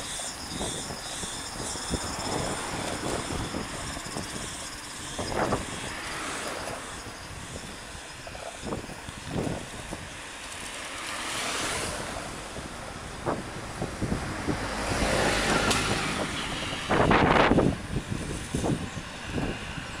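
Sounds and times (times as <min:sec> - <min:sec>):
wind buffeting microphone: 0:00.0 - 0:10.4, 0:11.3 - 0:20.0
road noise: 0:00.0 - 0:20.0
vehicles passing: 0:00.0 - 0:20.0.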